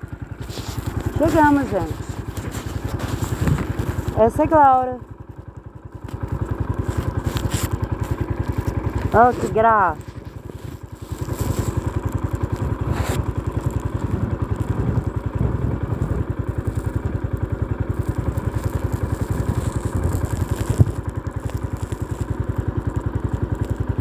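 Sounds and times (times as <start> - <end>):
vehicle engine pulsing: 0.0 - 24.0.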